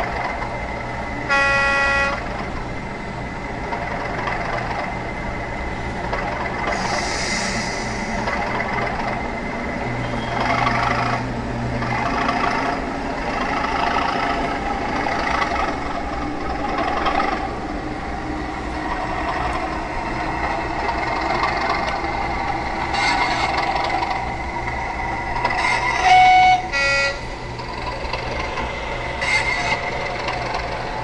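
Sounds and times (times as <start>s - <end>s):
diesel locomotive engine droning: 0.0s - 31.0s.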